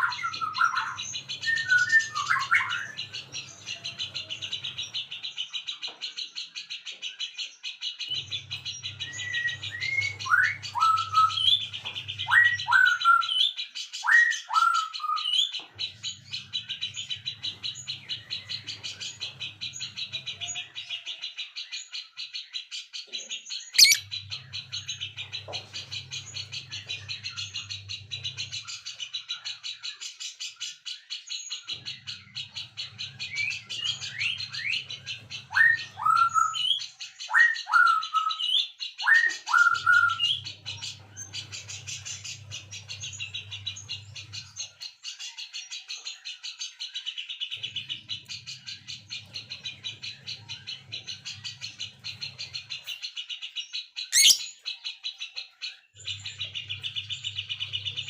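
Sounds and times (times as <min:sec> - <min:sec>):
birds chirping chorus: 0:00.0 - 0:58.0.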